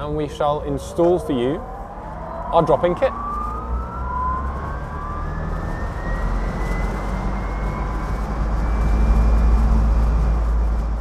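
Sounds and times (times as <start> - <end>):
road and wind noise: 0.0 - 11.0
low rumble: 0.6 - 11.0
electric motor whining: 1.0 - 10.6.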